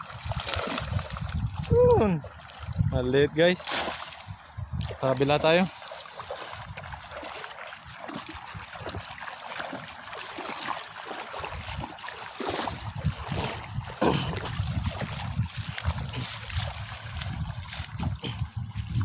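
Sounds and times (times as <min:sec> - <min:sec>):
footsteps splashing through water: 0:00.0 - 0:19.0.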